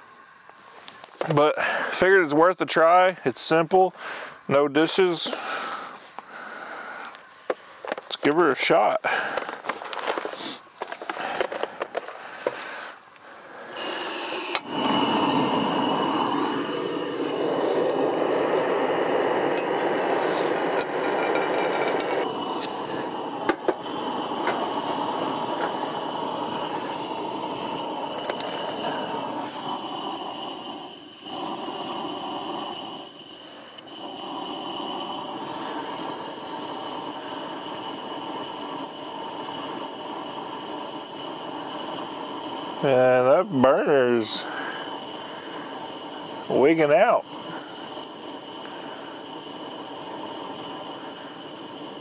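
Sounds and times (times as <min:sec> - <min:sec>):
camp burner hissing: 0:00.0 - 0:52.0.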